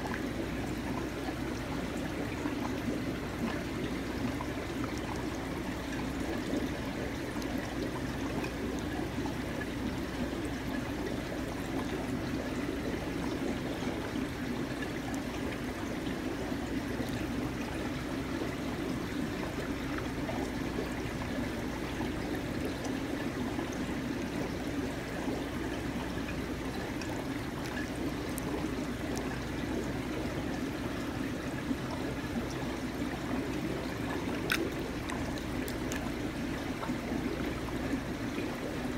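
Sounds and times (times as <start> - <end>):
aquarium water trickling: 0.0 - 38.9
low steady hum: 0.0 - 38.9.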